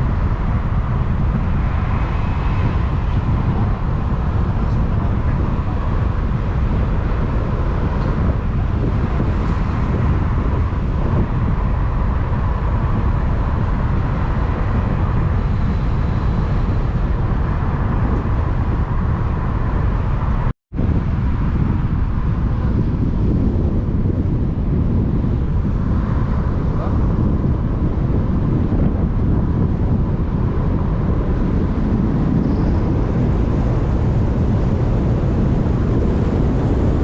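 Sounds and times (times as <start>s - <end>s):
vehicle rumble: 0.0s - 37.0s.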